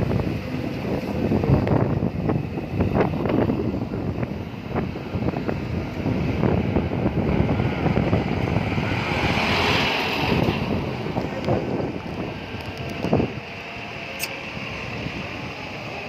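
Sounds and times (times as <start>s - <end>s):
vehicle noise: 0.0s - 16.0s
wind buffeting microphone: 0.0s - 16.0s.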